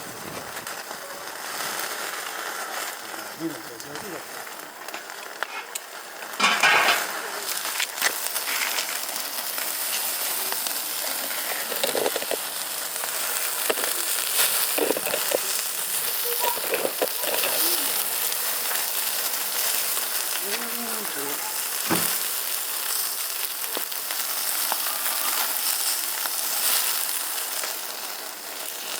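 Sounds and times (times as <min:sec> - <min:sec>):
fire crackles: 0:00.0 - 0:28.9
meat sizzling on a grill: 0:00.0 - 0:28.9.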